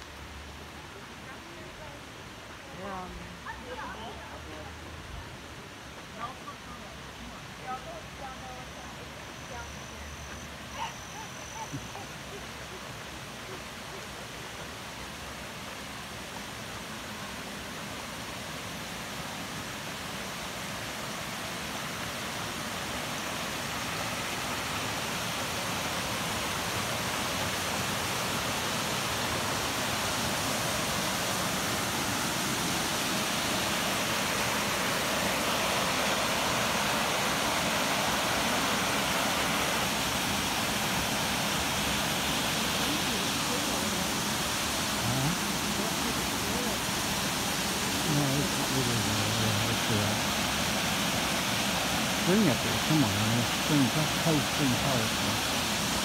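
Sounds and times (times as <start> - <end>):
waterfall and creek rushing: 0.0 - 56.0.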